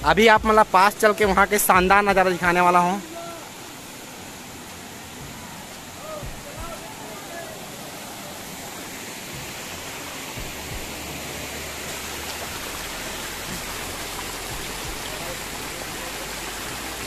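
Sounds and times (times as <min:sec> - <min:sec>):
fast-flowing stream water rushing: 0:00.0 - 0:17.0.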